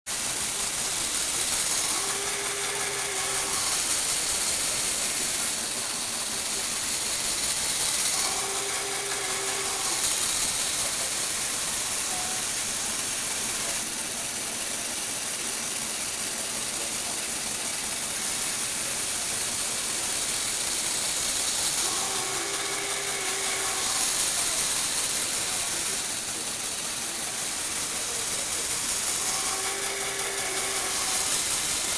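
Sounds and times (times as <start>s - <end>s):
toy motor and gears whirring: 0.1s - 31.9s.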